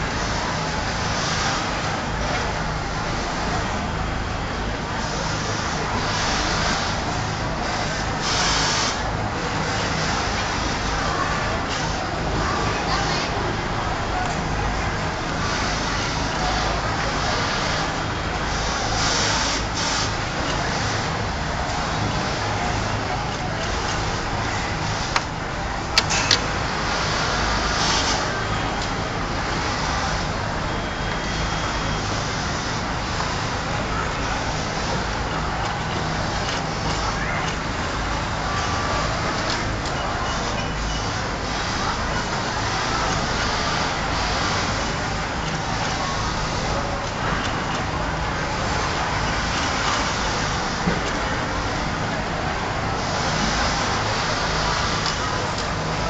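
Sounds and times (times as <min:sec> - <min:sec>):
industrial sewing machines running: 0:00.0 - 0:56.0.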